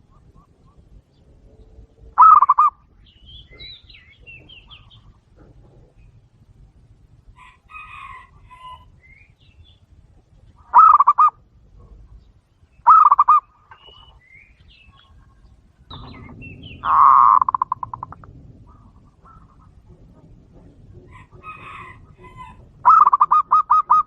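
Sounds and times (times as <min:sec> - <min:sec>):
doves cooing: 0:00.0 - 0:09.2, 0:10.5 - 0:12.2, 0:12.8 - 0:24.0.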